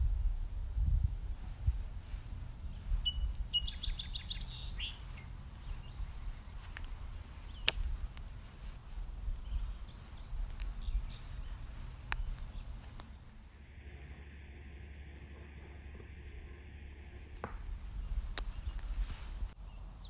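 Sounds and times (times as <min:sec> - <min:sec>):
low handling rumble: 0:00.0 - 0:20.0
bird chirping: 0:02.0 - 0:14.2, 0:15.8 - 0:20.0.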